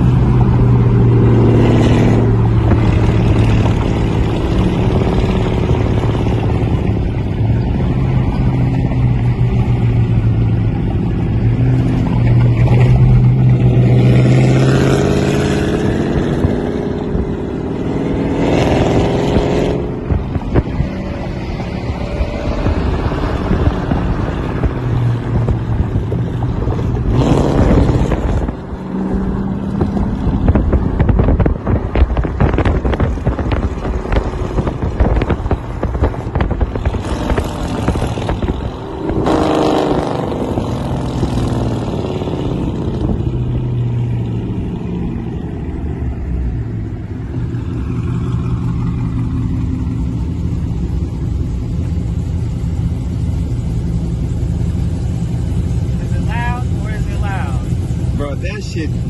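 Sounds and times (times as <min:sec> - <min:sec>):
loud car exhaust revving: 0:00.0 - 0:59.0.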